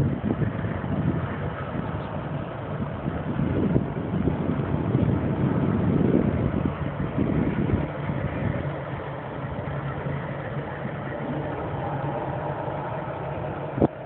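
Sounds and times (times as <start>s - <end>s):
low engine hum: 0.0s - 14.0s
wind buffeting microphone: 0.0s - 14.0s.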